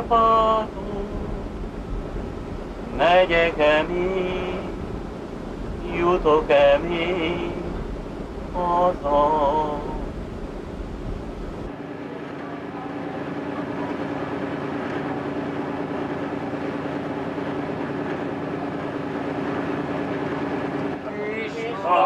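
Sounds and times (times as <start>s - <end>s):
boat engine humming: 0.0s - 22.0s
water rushing from wake: 0.0s - 22.0s.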